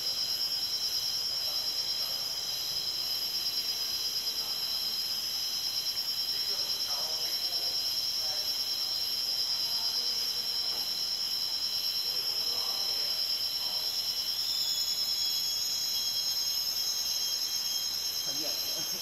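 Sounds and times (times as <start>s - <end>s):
forest insects trilling: 0.0s - 19.0s
higher-pitched insect: 0.0s - 19.0s.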